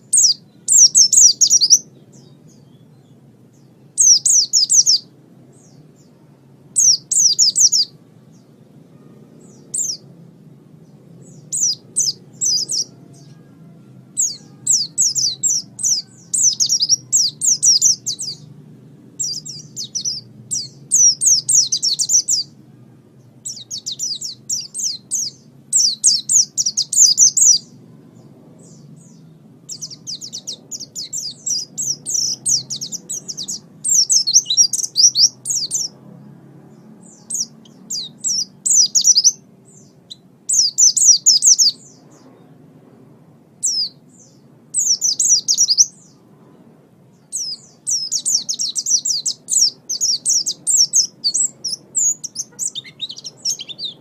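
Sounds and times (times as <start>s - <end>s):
songbird twittering: 0.0s - 10.1s, 10.8s - 18.5s, 19.2s - 22.6s, 23.2s - 36.0s, 36.7s - 42.6s, 43.6s - 46.2s, 47.1s - 54.0s.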